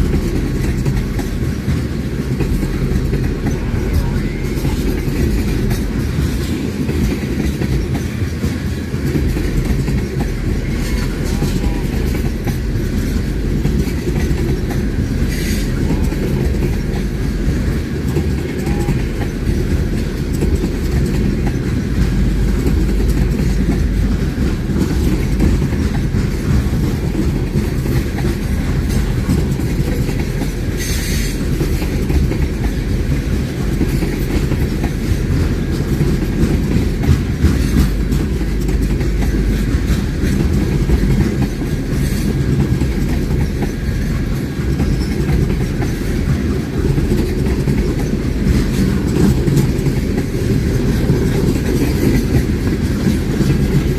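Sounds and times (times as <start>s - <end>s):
train cars rumbling on rails: 0.0s - 53.9s
wheel clatter over track joints: 0.0s - 53.9s.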